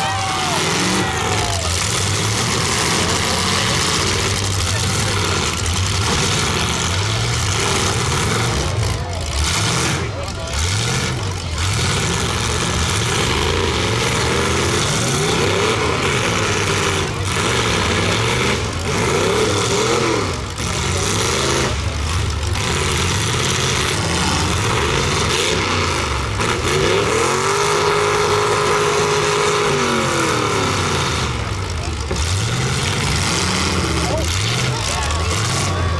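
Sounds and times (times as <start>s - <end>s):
car engines revving hard: 0.0s - 35.9s.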